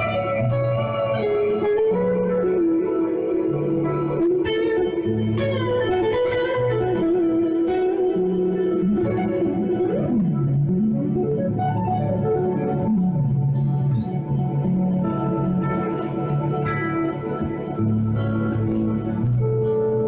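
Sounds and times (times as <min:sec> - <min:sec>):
clean electric guitar melody: 0:00.0 - 0:20.0.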